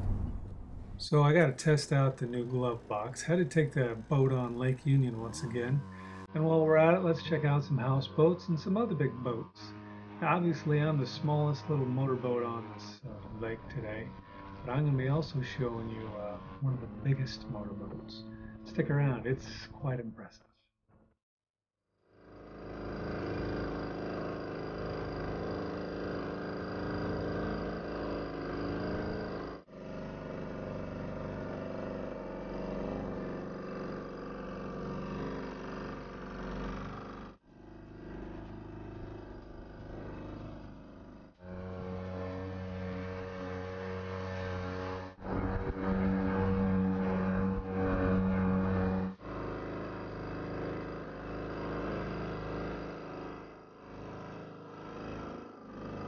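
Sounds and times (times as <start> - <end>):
outboard motor running: 0.0 - 19.1, 22.2 - 56.0.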